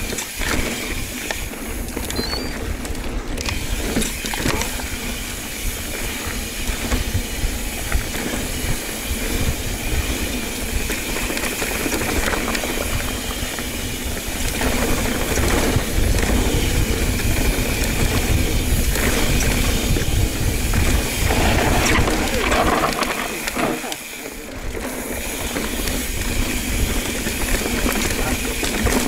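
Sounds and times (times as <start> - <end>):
bike knocks and rattles: 0.0 - 29.0
tyres rolling on dirt trail: 0.0 - 29.0
wind buffeting microphone: 0.8 - 29.0.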